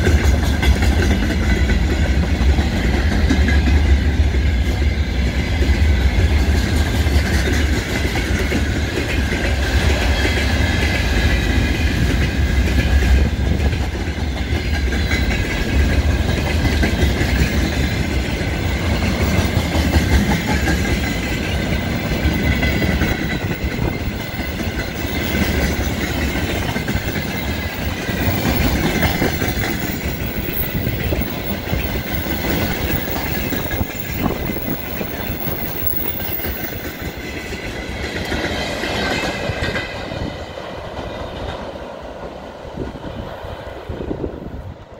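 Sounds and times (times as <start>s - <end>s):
train wheels clattering over joints: 0.0s - 41.8s.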